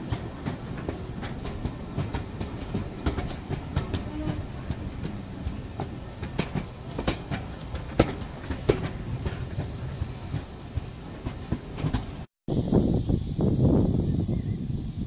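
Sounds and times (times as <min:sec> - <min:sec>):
wheels clicking over rail joints: 0:00.0 - 0:12.3
railway carriage rumbling: 0:00.0 - 0:15.0.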